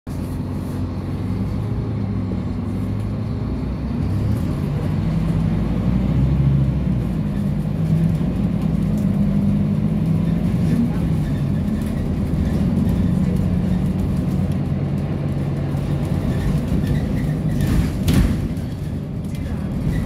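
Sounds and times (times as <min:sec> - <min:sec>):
bus engine drone: 0:00.1 - 0:20.0
road noise: 0:00.1 - 0:20.0.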